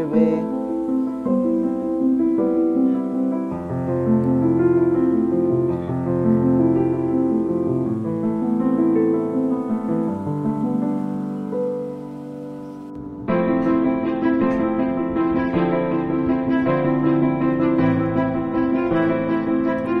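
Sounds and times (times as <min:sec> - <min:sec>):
calm piano instrumental music: 0:00.0 - 0:20.0.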